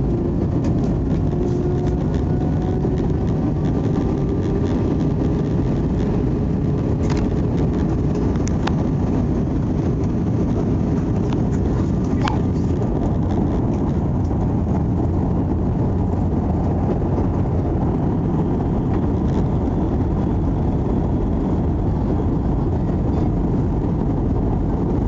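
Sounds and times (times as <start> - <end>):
airliner cabin engine rumble: 0.0 - 25.0.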